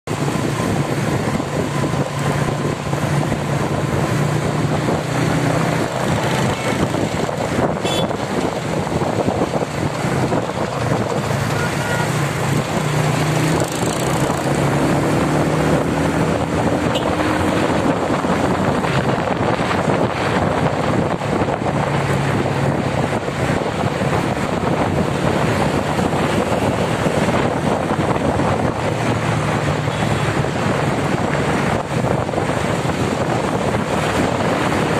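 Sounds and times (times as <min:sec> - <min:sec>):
road noise: 0:00.0 - 0:34.9
wind rushing over microphone: 0:00.0 - 0:34.9
low engine hum: 0:00.1 - 0:34.9.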